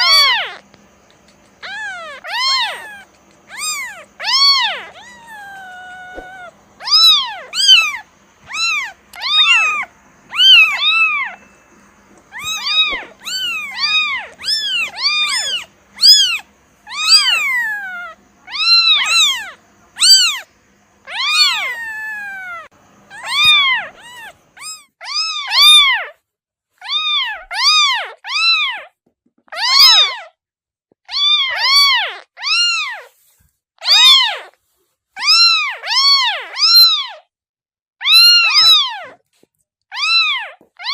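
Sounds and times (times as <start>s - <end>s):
kitten meowing: 0.0s - 26.1s, 26.8s - 28.9s, 29.5s - 30.2s, 31.1s - 33.1s, 33.8s - 34.5s, 35.2s - 37.2s, 38.0s - 39.2s, 39.9s - 40.9s.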